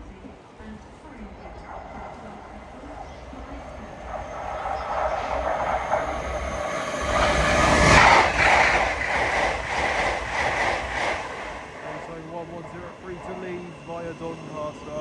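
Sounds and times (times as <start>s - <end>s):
wheels clattering over rails: 0.0s - 14.3s
passenger train passing: 0.0s - 15.0s.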